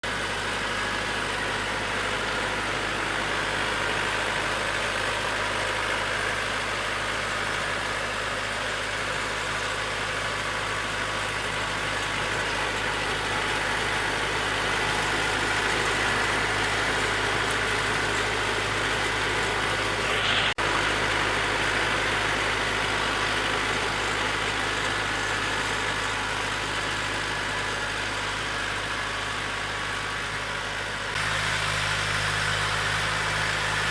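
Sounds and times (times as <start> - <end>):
rotary tiller through soil: 0.0 - 33.9
tractor engine running under load: 0.0 - 33.9.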